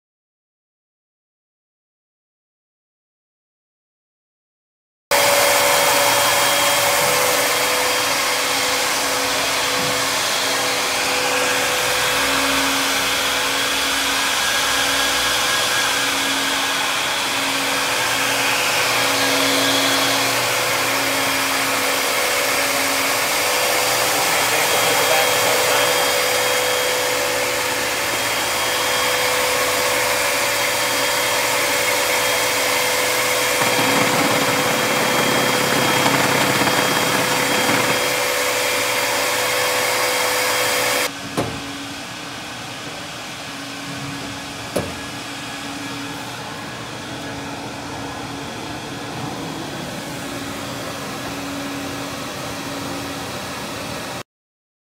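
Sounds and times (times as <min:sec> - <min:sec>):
industrial vacuum running: 0:05.1 - 0:54.2.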